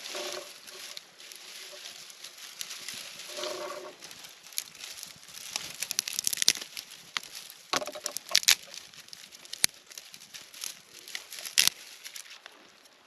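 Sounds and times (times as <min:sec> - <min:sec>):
dry material crackling and snapping: 0:00.0 - 0:13.0.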